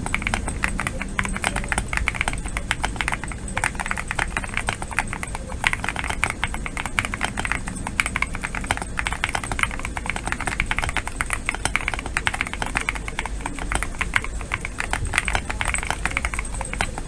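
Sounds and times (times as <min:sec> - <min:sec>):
mechanical keyboard typing: 0:00.0 - 0:17.0.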